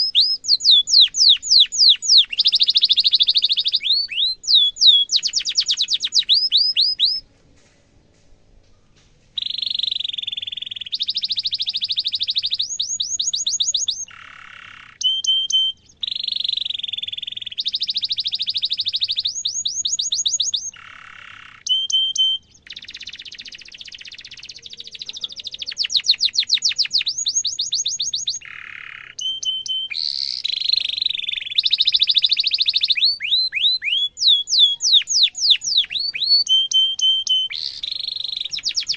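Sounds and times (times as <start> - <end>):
canary singing trills: 0.0 - 7.2, 9.4 - 38.9.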